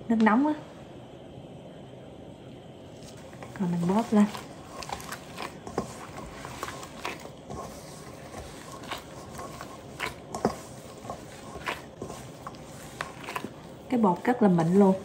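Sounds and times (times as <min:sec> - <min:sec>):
hands squishing dough: 0:02.9 - 0:15.0.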